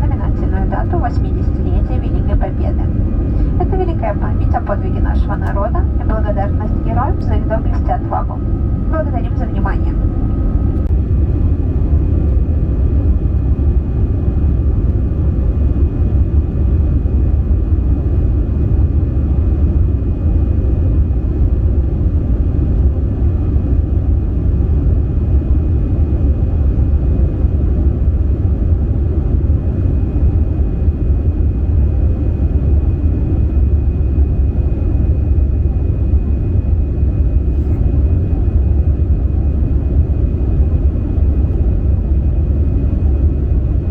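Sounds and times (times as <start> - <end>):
aircraft cabin engine rumble: 0.0 - 43.9.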